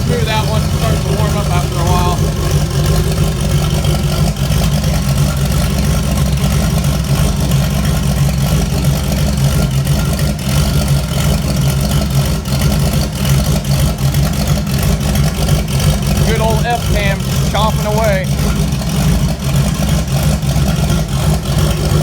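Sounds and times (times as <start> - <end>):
engine idling roughly: 0.0 - 22.0.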